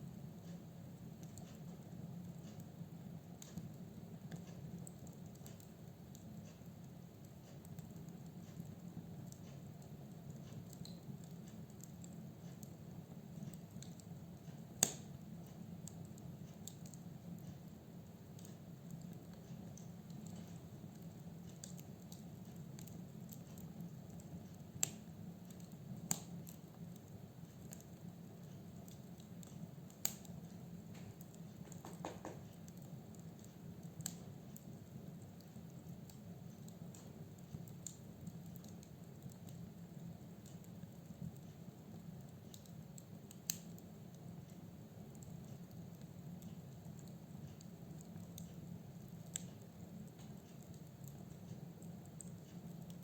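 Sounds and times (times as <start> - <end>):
fire burning with crackles: 0.0 - 53.0.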